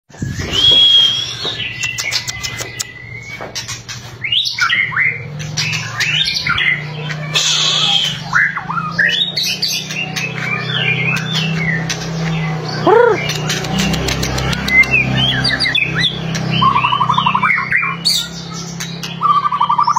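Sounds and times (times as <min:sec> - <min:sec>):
songbird singing: 0:00.2 - 0:19.9.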